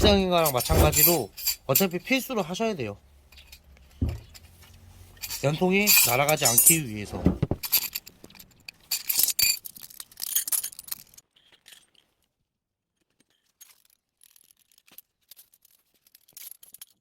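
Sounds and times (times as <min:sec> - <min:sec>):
small metal parts clinking: 0:00.0 - 0:02.4, 0:03.3 - 0:07.0, 0:07.6 - 0:12.3, 0:13.1 - 0:17.0.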